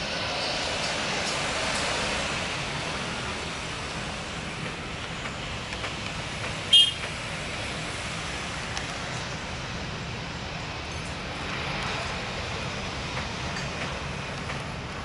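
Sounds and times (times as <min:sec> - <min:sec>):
jet airliner rolling on runway: 0:00.0 - 0:15.0.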